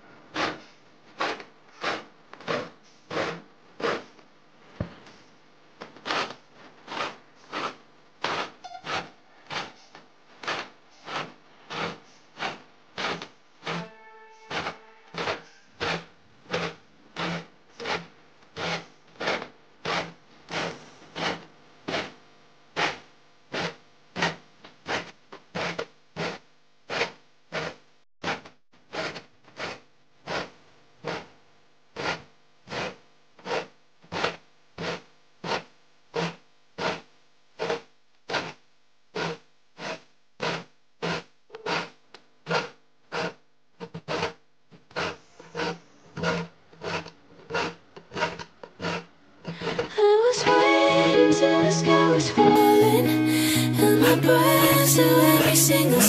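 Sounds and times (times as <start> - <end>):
file rasping on saw teeth: 0.3 - 4.2, 6.0 - 22.2, 22.8 - 31.3, 32.0 - 50.0.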